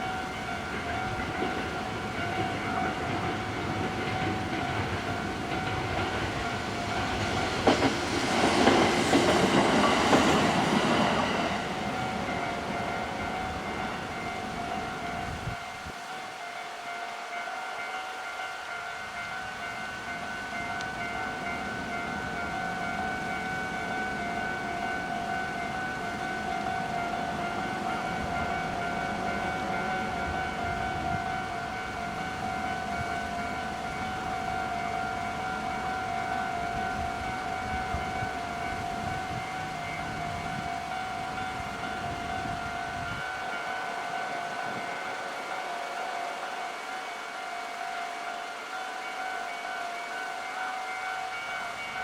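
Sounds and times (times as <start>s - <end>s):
level crossing alarm ringing: 0.0s - 52.0s
train rumbling over crossing: 0.0s - 52.0s.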